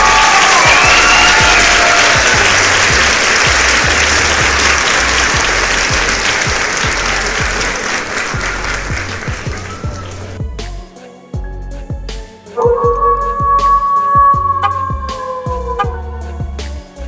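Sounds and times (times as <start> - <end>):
crowd applause and cheering: 0.0 - 10.4, 12.6 - 16.4
music with thumping beat: 0.0 - 17.0.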